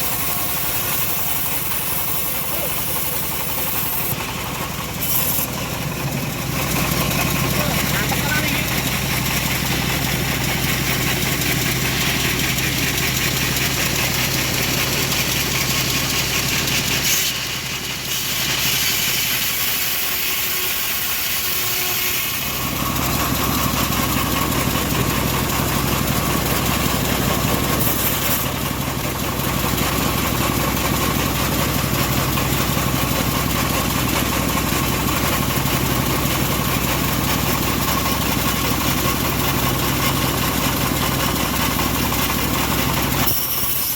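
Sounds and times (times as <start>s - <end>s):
sawmill engine sawing a log: 0.0s - 43.9s.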